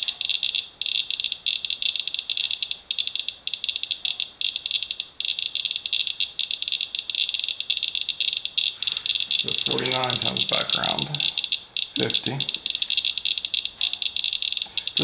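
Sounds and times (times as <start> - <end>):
geiger counter clicking rapidly: 0.0 - 15.0.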